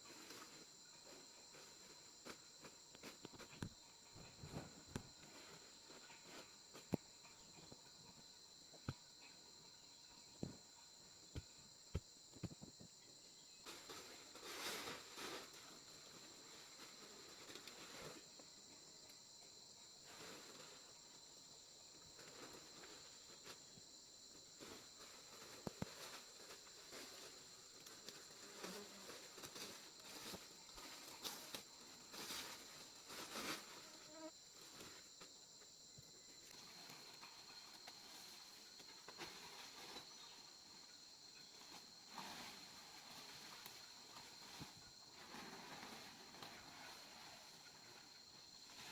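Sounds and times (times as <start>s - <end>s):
high-pitched insect chorus: 0.0s - 48.9s.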